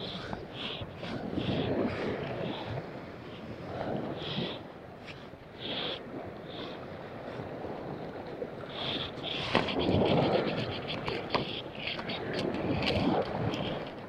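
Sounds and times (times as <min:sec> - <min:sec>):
wind and water noise: 0:00.0 - 0:14.0.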